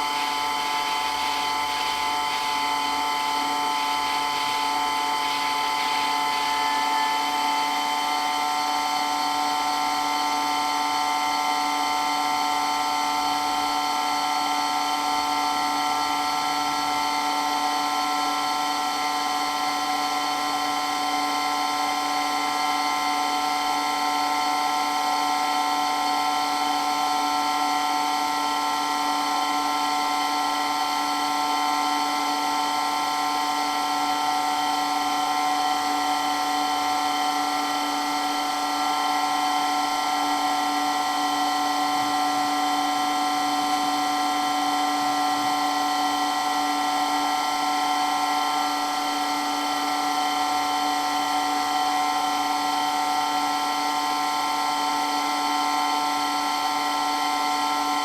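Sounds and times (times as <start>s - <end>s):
electric water pump whining: 0.0s - 58.0s.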